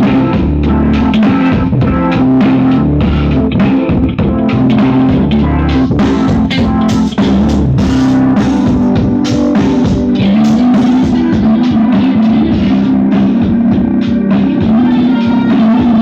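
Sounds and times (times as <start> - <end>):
music with a steady beat: 0.0 - 16.0.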